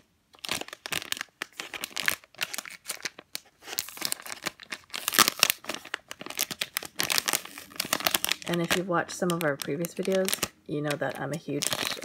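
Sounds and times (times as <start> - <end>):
plastic bag crinkling: 0.0 - 12.0
plastic tearing: 0.0 - 12.0.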